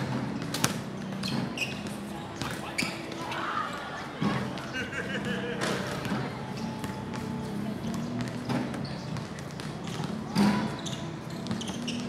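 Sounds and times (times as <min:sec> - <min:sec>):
players calling out: 0:01.6 - 0:12.0.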